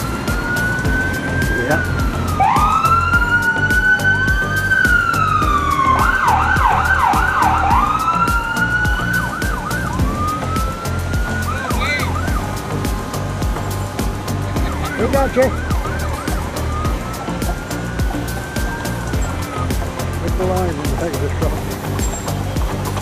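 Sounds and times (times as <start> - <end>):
emergency sirens wailing: 0.0 - 23.0
low engine hum: 0.0 - 23.0.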